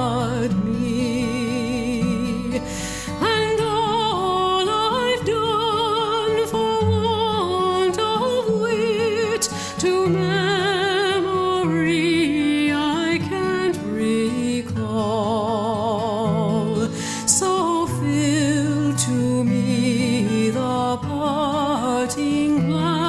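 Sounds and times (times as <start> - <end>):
person singing with vibrato: 0.0 - 23.0.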